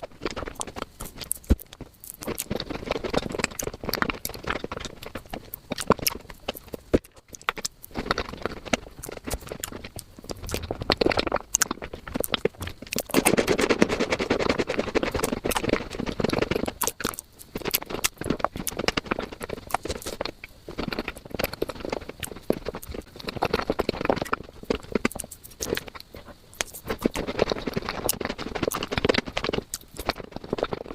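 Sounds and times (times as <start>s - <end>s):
sped-up chewing and mouth clicks: 0.0s - 30.9s.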